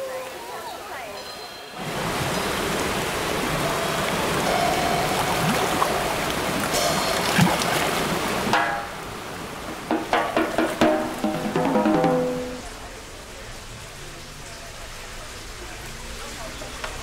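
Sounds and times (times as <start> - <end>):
creek water rushing: 1.8 - 17.0.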